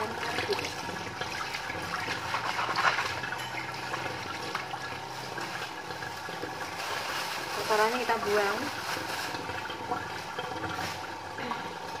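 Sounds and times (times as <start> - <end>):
hose water splashing into colander: 0.0 - 12.0.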